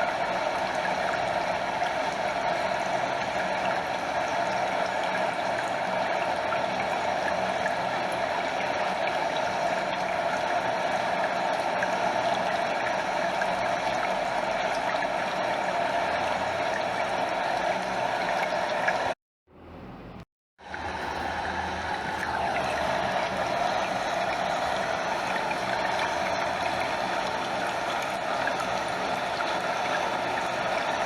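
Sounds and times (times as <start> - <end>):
stream over small waterfall: 0.0 - 19.2, 20.6 - 31.0.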